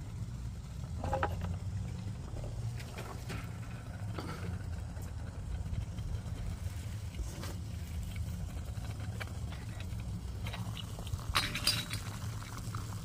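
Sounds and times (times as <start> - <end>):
fire crackles: 0.0 - 13.0
wood fire rumbling: 0.0 - 13.0.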